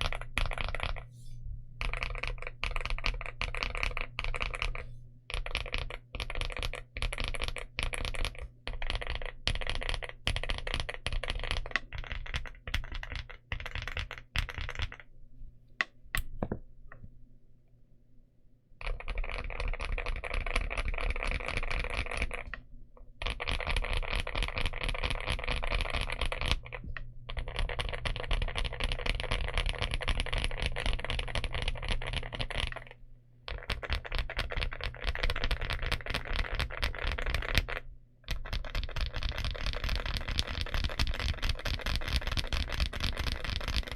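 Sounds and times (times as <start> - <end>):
fast typing on mechanical keyboard: 0.0 - 1.1, 1.8 - 15.1, 18.8 - 22.6, 23.2 - 43.9.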